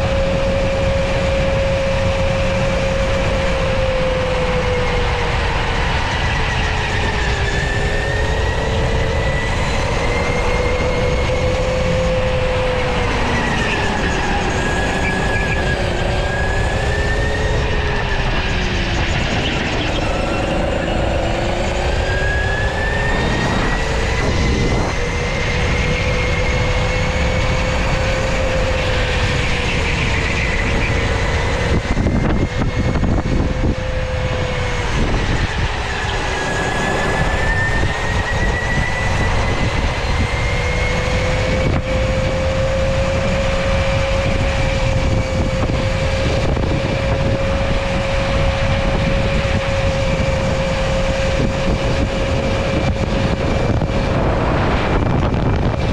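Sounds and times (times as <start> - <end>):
electric motor whining: 0.0 - 55.9
steady noisy rush: 0.0 - 55.9.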